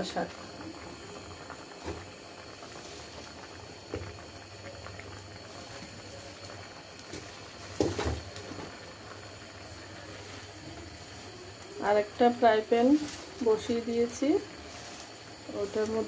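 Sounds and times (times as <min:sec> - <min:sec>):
pot of lentils boiling: 0:00.0 - 0:16.0.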